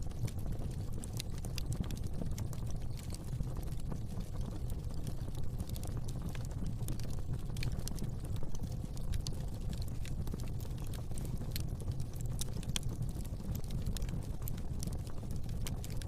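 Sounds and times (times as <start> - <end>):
fire crackling and popping: 0.0 - 16.0
low rumble of fire: 0.0 - 16.0.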